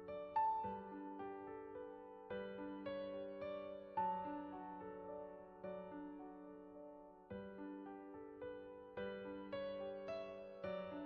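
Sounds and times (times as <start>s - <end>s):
soft keyboard music: 0.0s - 11.0s.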